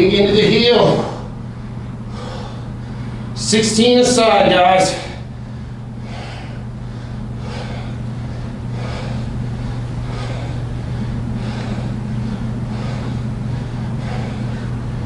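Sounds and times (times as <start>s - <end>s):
steady low hum: 0.0s - 15.0s
person breathing hard: 0.8s - 3.4s, 4.9s - 15.0s.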